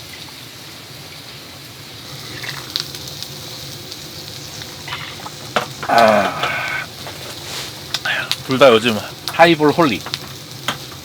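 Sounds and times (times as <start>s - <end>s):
fish sizzling on a grill: 0.0s - 11.0s.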